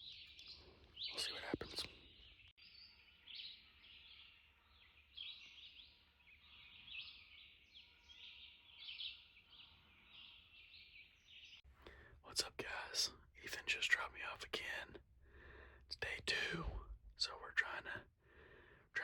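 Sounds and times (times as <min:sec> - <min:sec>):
faint songbird chorus: 0:00.0 - 0:19.0.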